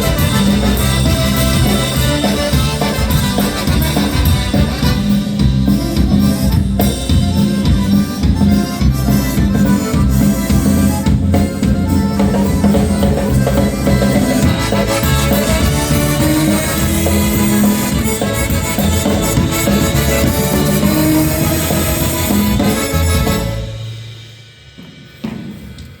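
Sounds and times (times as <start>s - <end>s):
polka band playing: 0.0s - 24.4s
drum kit steady beat: 0.0s - 26.0s.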